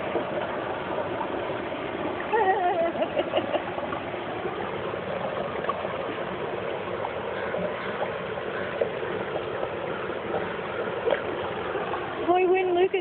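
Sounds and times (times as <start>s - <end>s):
fish splashing: 0.0s - 12.6s
running water rushing: 0.0s - 13.0s.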